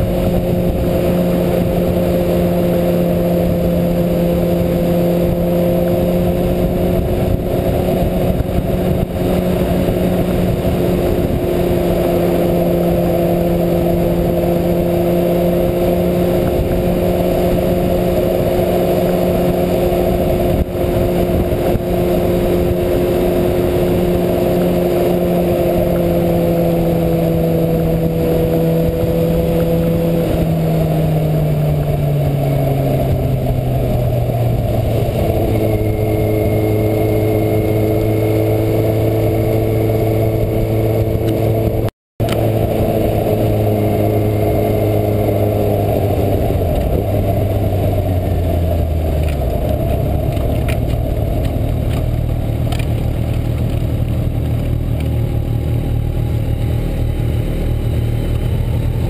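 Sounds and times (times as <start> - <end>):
heavy wind noise: 0.0 - 59.0
motorcycle engine running: 0.0 - 59.0.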